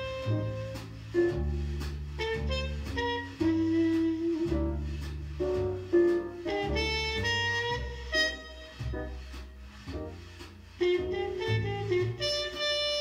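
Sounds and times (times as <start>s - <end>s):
jazz melody notes: 0.0s - 13.0s
stepping bass line: 0.0s - 13.0s.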